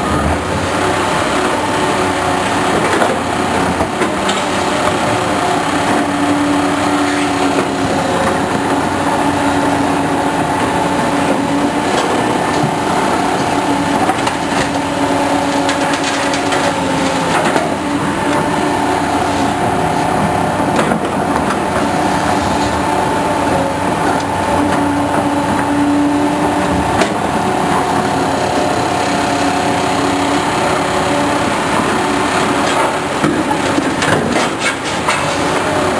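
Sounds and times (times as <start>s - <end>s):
construction machinery engine drone: 0.0s - 35.9s.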